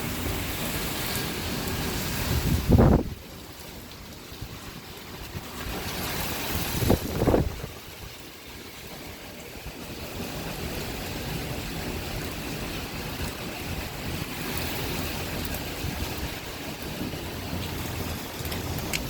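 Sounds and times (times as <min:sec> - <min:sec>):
wind and rain against building: 0:00.0 - 0:19.0.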